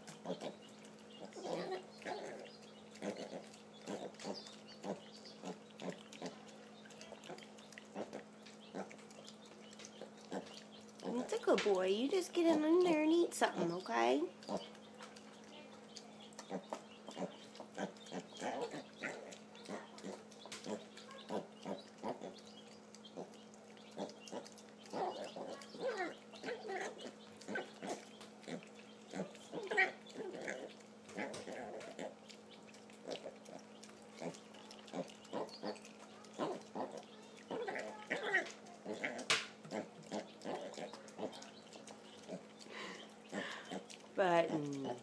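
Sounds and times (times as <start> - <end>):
piglets grunting: 0.0 - 11.5, 12.1 - 45.0
piglets crunching feed: 0.0 - 45.0.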